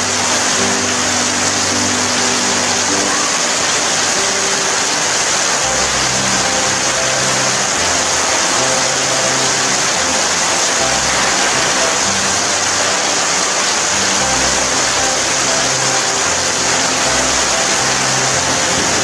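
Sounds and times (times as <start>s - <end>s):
soft low musical notes: 0.0s - 19.0s
steady rain falling: 0.0s - 19.0s.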